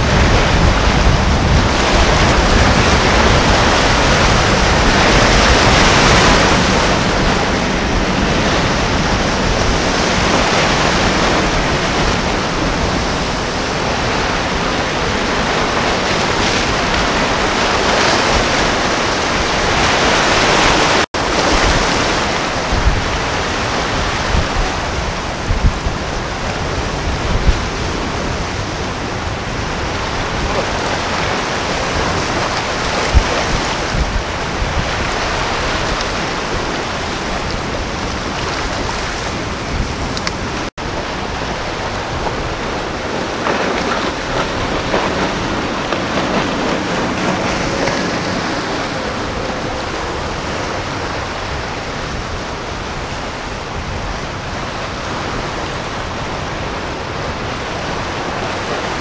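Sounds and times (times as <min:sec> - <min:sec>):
gusts thumping microphone: 0:00.0 - 0:55.4
waves and surf breaking: 0:00.0 - 0:59.0
wind on microphone: 0:00.0 - 0:59.0.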